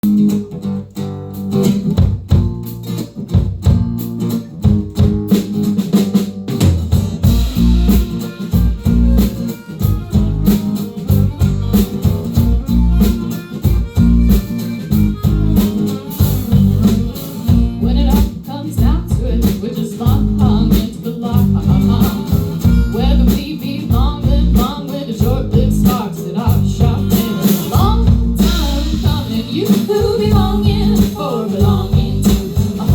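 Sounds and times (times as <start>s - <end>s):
live band playing: 0.0s - 32.9s
steady drum hits: 1.8s - 23.0s, 25.3s - 32.9s.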